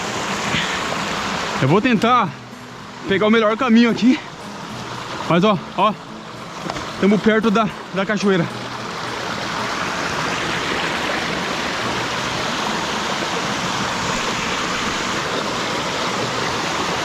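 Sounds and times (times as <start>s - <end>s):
stream rushing: 0.0s - 17.0s.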